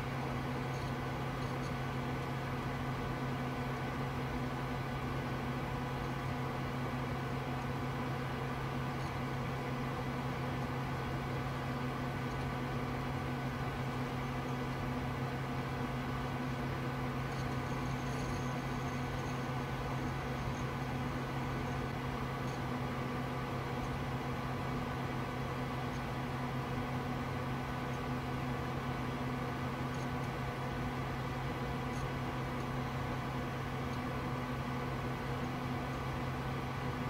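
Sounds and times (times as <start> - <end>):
computer cooling fans humming: 0.0 - 37.0.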